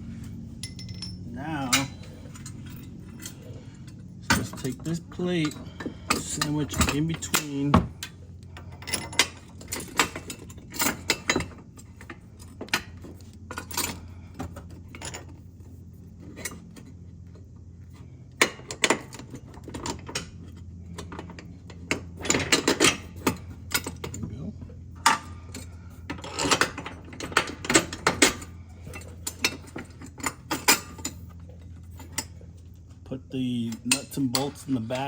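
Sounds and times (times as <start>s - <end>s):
steady low hum: 0.0s - 35.0s
metal nuts and bolts clinking: 0.2s - 15.4s, 18.4s - 24.4s, 25.0s - 32.9s, 33.6s - 35.0s.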